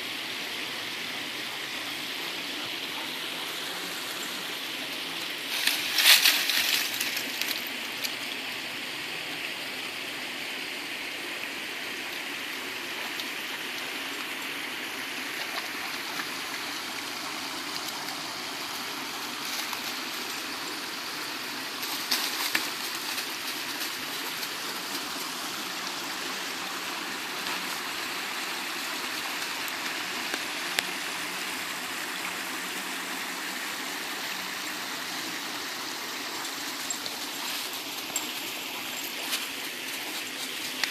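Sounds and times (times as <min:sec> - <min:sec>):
creek running over rocks: 0:00.0 - 0:40.9.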